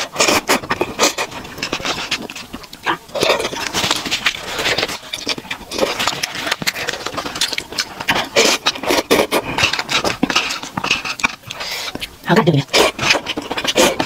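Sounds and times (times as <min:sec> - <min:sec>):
slurping and chewing noodles: 0:00.0 - 0:14.0.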